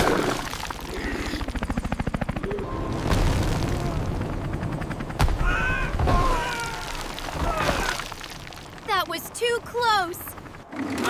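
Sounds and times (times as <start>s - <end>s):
cartoon helicopter rotor chopping: 0.0s - 7.3s, 8.8s - 11.0s.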